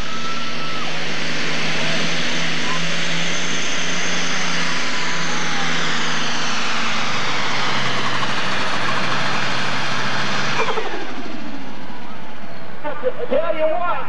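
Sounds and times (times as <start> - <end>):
tractor engine running flat out: 0.0 - 14.0.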